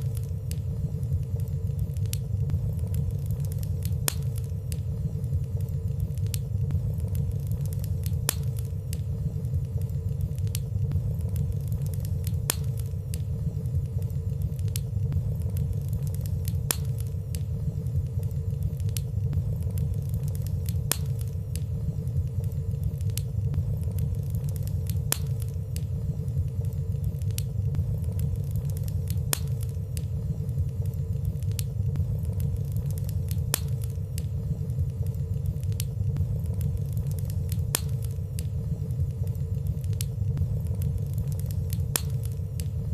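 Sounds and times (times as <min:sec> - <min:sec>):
fire crackling: 0:00.0 - 0:42.9
fire rumbling: 0:00.0 - 0:42.9.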